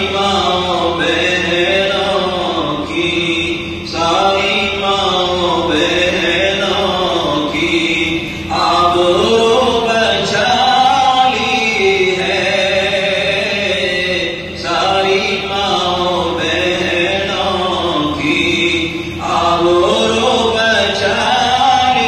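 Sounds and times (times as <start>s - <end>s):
man singing melismatic notes: 0.0s - 22.0s.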